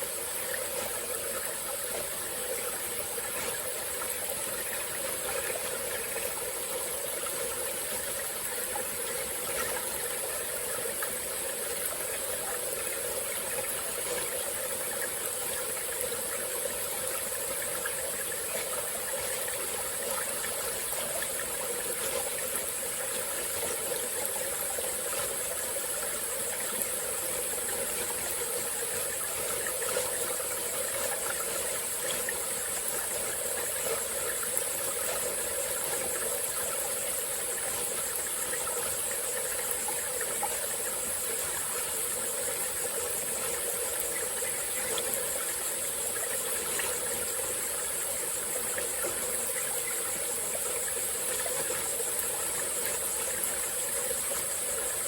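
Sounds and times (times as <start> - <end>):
insects chorus: 0.0 - 55.0
stream flowing over rocks: 0.0 - 55.0.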